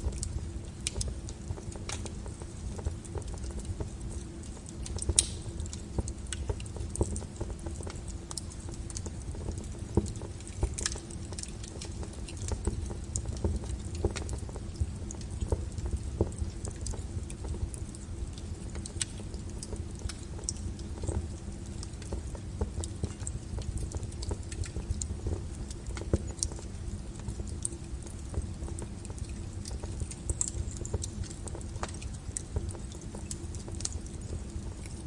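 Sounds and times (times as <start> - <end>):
low steady rumble: 0.0 - 35.0
wood fire crackling: 0.0 - 35.0.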